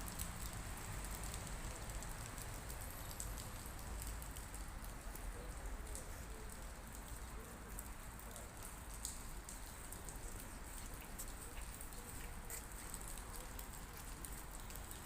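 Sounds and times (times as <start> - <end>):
water drops pattering on a surface: 0.0 - 15.0.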